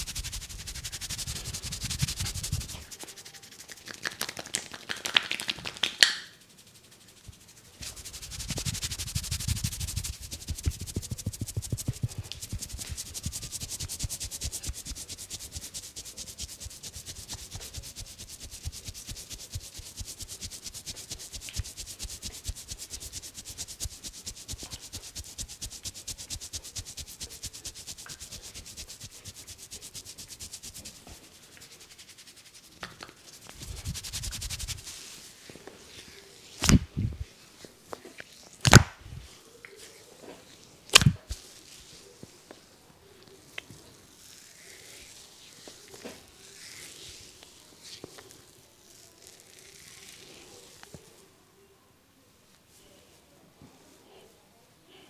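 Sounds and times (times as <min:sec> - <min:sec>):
hands rubbing and tapping hair: 0:00.0 - 0:51.1.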